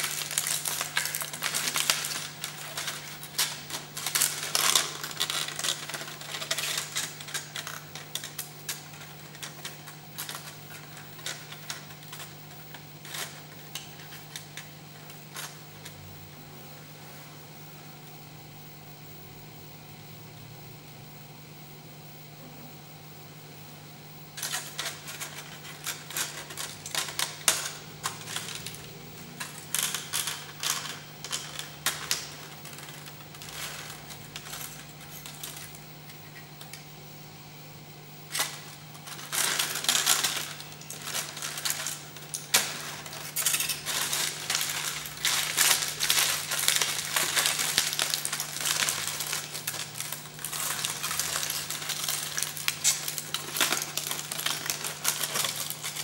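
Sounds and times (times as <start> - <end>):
aluminium foil crinkling: 0.0 - 16.0, 24.4 - 36.8, 38.3 - 56.0
steady low hum: 0.0 - 56.0.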